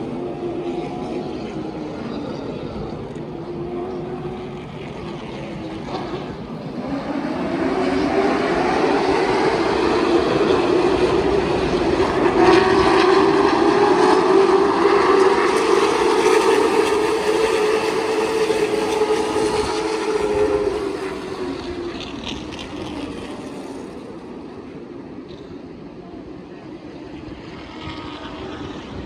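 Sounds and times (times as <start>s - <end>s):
stock car engines droning: 0.0s - 29.0s.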